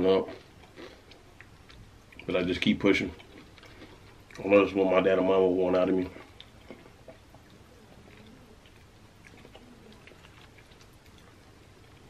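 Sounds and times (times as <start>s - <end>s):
faint chewing: 0.0s - 5.2s, 5.9s - 12.0s.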